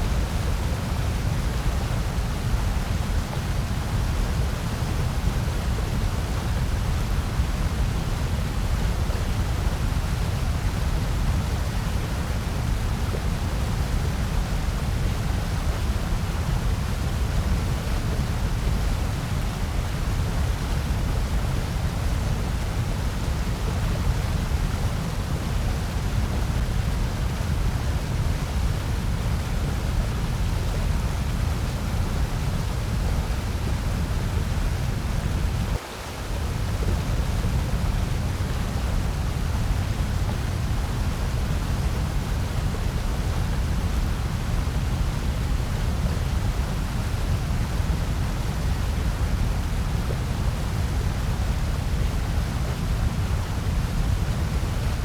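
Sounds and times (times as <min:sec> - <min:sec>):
steady hiss with low rumble: 0:00.0 - 0:55.0.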